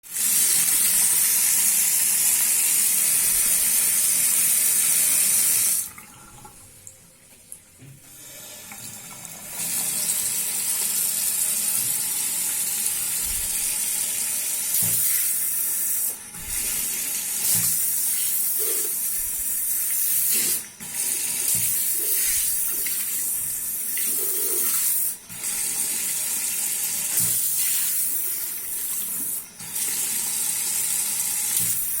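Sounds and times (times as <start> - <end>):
water running from tap: 0.0 - 7.0, 8.1 - 32.0.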